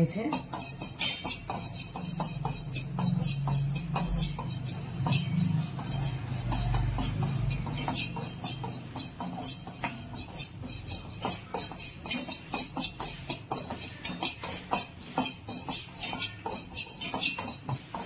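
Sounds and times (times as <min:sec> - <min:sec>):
steel spoon scraping a pot: 0:00.0 - 0:18.0.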